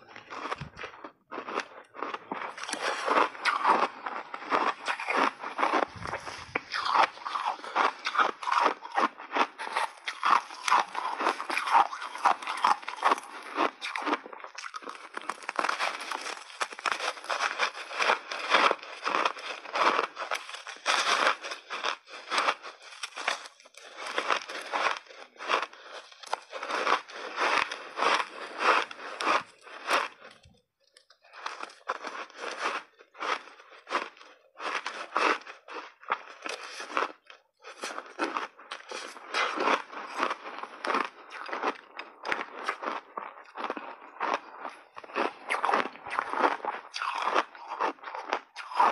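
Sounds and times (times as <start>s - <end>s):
crunching and chewing ice: 0.0s - 48.9s.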